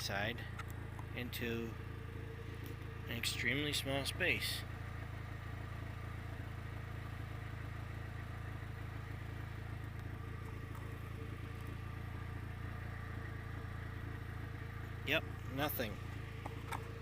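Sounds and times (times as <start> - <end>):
engine idling with low hum: 0.0 - 17.0.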